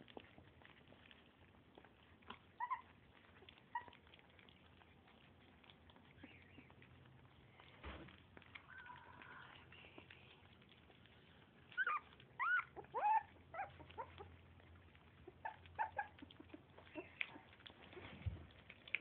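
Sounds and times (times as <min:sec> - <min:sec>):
puppy whimpering: 0:00.0 - 0:07.7, 0:08.4 - 0:19.0.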